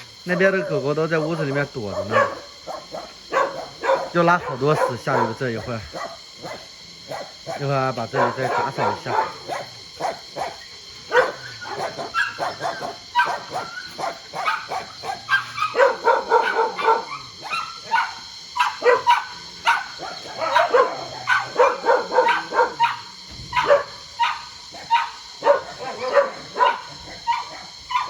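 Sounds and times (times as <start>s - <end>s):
many dogs barking: 0.0s - 28.0s.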